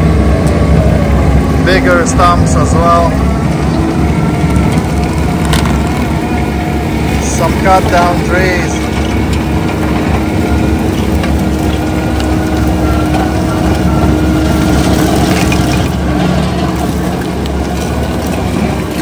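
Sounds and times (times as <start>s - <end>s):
diesel engine under heavy load: 0.0s - 19.0s
steady whine: 0.0s - 19.0s
stump grinder churning: 0.0s - 19.0s.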